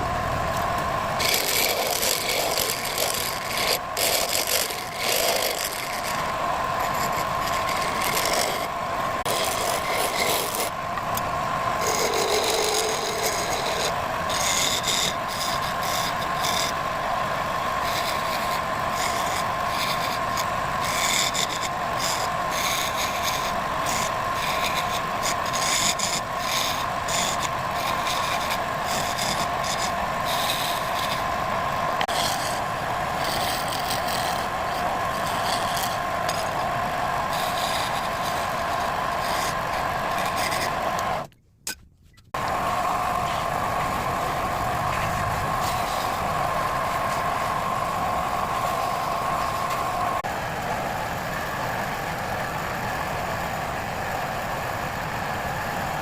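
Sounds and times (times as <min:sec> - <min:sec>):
wood rasping and scraping: 0:00.0 - 0:41.3, 0:42.3 - 0:50.3
woodworking machine motor whine: 0:00.0 - 0:41.3, 0:42.4 - 0:56.0.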